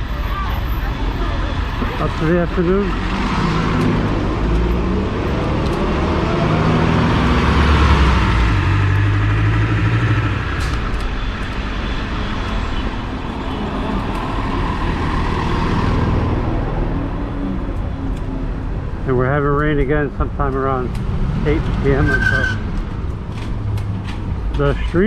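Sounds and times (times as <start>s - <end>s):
motor vehicles passing: 0.0s - 25.0s.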